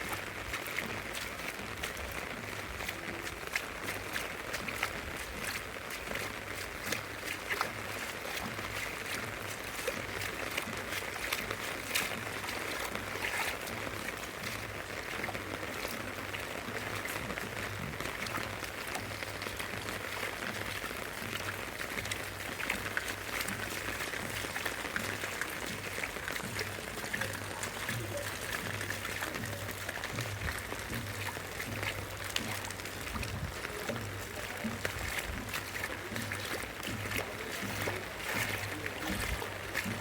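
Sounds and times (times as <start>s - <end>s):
rain falling: 0.0s - 40.0s.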